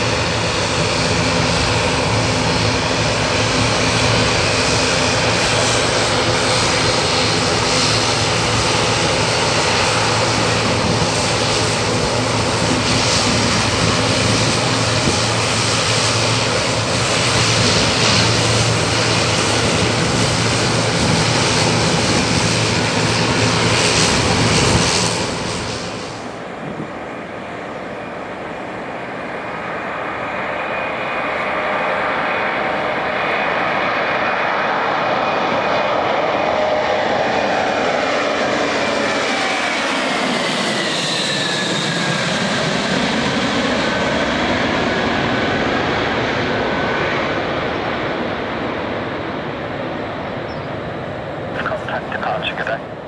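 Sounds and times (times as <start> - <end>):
turboprop propeller hum: 0.0 - 53.0.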